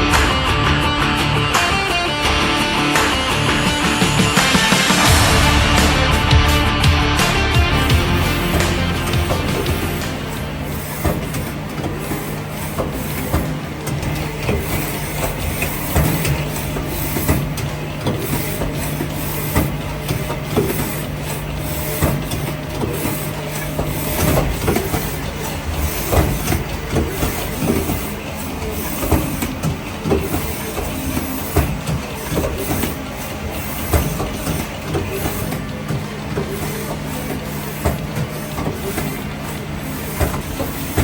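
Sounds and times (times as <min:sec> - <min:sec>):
lathe humming: 0:00.0 - 0:41.0
clacks and knocks: 0:07.2 - 0:41.0.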